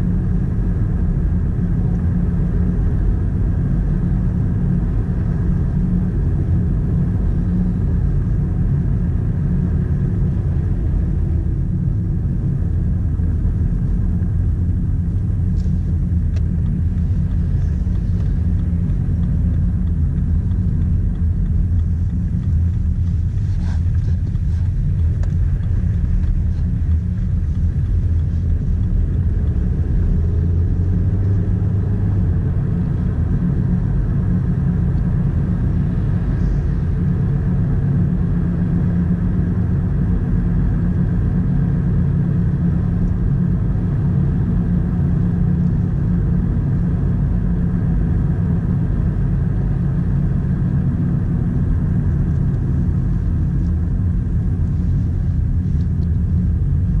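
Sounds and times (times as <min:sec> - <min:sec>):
car engine rumble: 0:00.0 - 0:57.0
tyres on road: 0:00.0 - 0:57.0.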